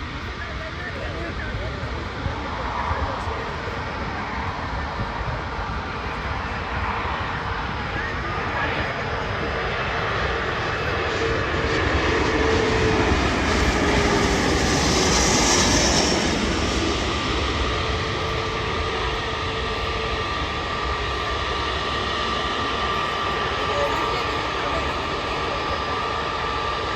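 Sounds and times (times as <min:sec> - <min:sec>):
jet engines roaring and whining: 0:00.0 - 0:26.9.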